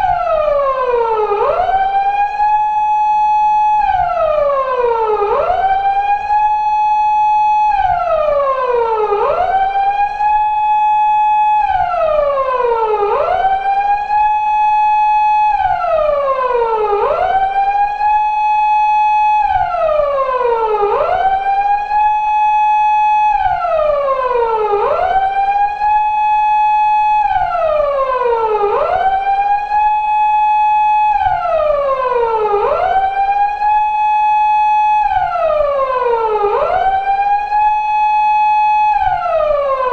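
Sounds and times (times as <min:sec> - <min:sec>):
police car wail siren: 0:00.0 - 0:39.9.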